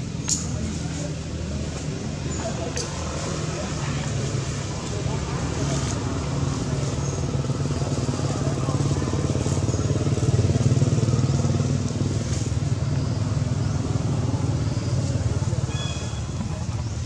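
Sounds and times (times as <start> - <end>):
engine running with low hum: 0.0 - 17.0.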